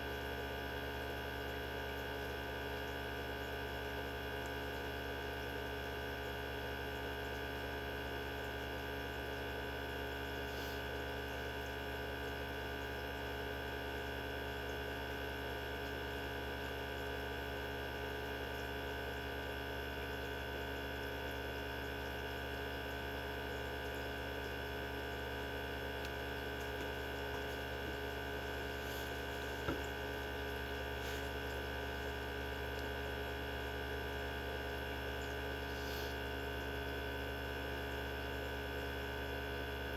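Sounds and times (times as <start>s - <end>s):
centrifuge motor hum: 0.0s - 39.9s.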